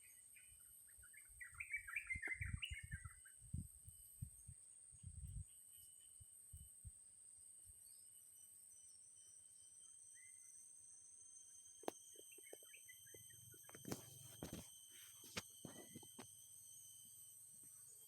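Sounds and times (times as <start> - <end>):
faint bird chirps: 0.0 - 7.0, 7.6 - 18.0
steady high-pitched whine: 0.0 - 18.0.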